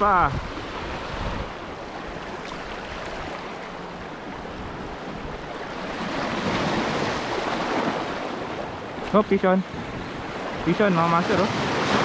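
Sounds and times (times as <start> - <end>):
waves washing over rocks: 0.0 - 12.0
wind on microphone: 0.0 - 12.0.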